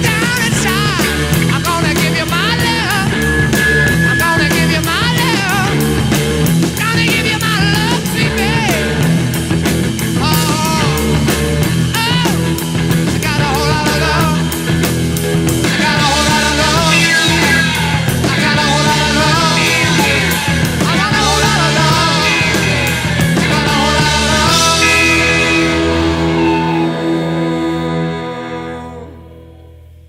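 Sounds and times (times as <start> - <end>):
rock and roll music: 0.0 - 30.0.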